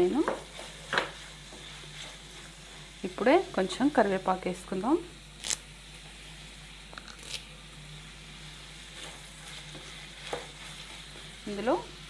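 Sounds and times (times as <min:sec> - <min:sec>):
vegetables sizzling in pan: 0:00.0 - 0:12.0.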